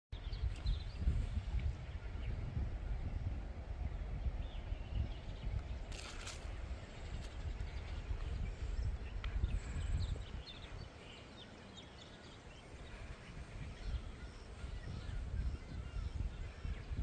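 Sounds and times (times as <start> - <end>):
wind on microphone: 0.2 - 17.0.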